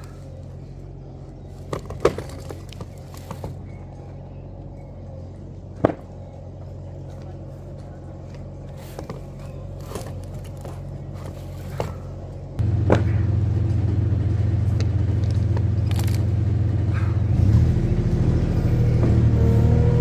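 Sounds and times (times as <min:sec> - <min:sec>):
loader engine humming: 0:00.0 - 0:20.0.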